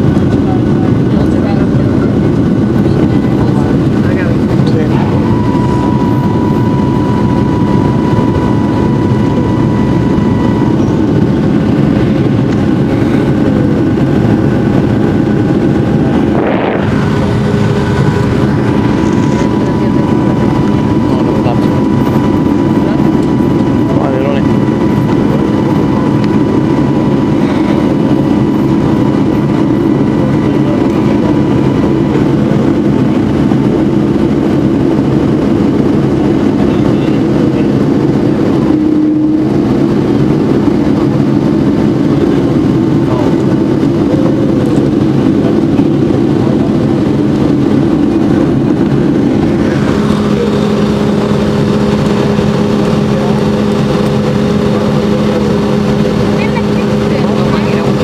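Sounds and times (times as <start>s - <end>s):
jet engines humming from cabin: 0.0s - 58.0s.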